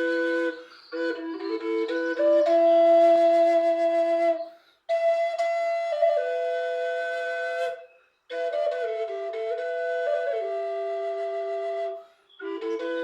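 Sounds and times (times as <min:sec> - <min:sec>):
flute playing slow melody: 0:00.0 - 0:13.0.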